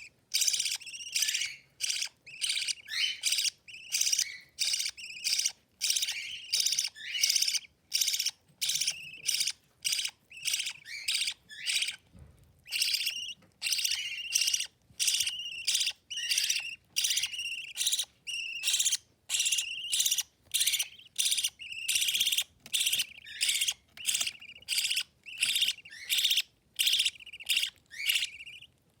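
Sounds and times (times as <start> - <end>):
budgerigar chicks begging chirps: 0.0 - 12.0, 12.6 - 28.8.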